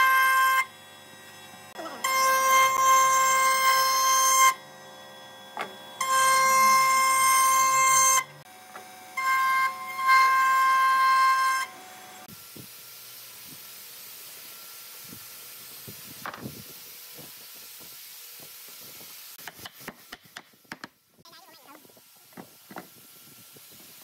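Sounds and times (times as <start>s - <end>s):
router cutting wood: 0.0s - 19.3s.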